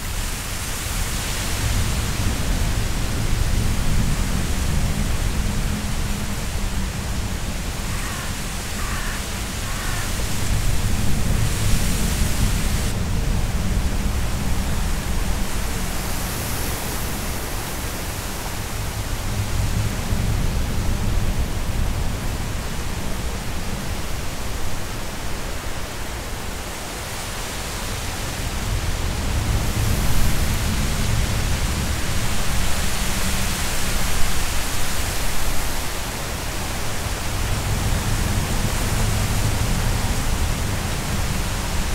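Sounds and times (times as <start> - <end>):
wind through reeds and grass: 0.0 - 41.9.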